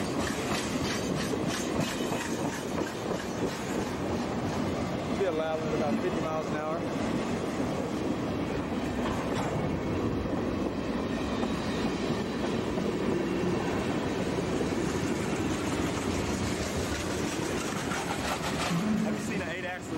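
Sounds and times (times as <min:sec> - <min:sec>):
freight train rolling past: 0:00.0 - 0:19.9.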